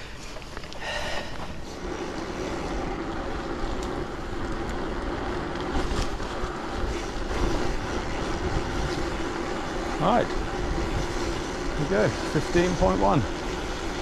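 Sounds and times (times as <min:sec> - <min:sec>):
tyres hissing on wet road: 0:00.0 - 0:14.0
wind rumbling on microphone: 0:00.0 - 0:14.0.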